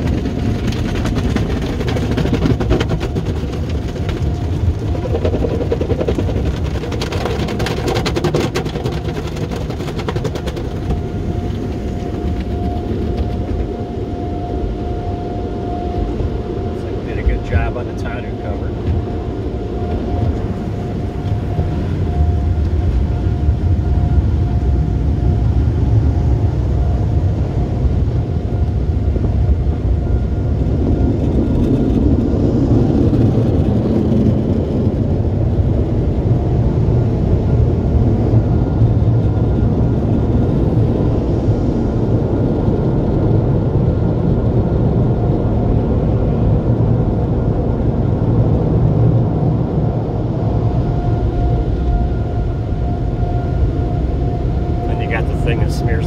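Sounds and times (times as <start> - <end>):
car wash machinery rumble: 0.0 - 56.0
faint steady whine: 0.0 - 56.0.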